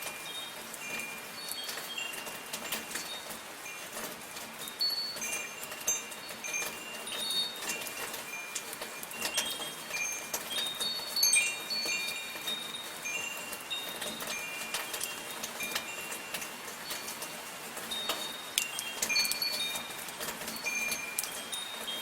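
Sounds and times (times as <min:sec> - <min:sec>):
light rain hiss: 0:00.0 - 0:22.0
wind chimes ringing: 0:00.0 - 0:22.0.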